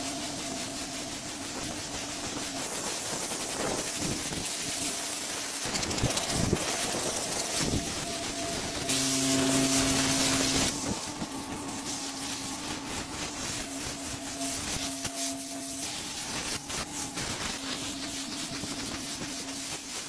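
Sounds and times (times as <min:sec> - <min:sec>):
pressure washer jet hissing: 0:00.0 - 0:20.0
washer motor humming: 0:00.0 - 0:20.0.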